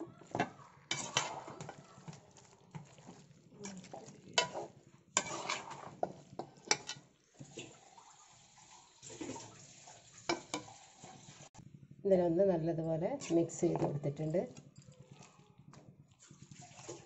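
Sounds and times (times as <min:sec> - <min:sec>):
wet squelching of stirred food: 0:00.0 - 0:11.4, 0:13.2 - 0:17.0.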